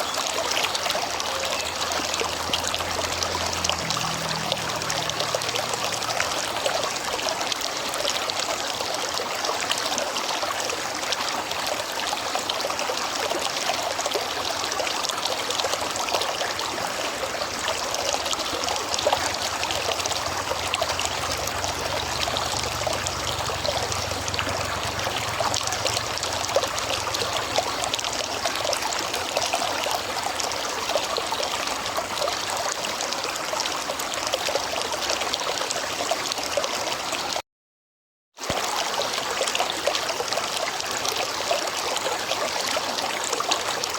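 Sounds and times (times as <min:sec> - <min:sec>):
river water flowing: 0:00.0 - 0:37.4, 0:38.4 - 0:43.9.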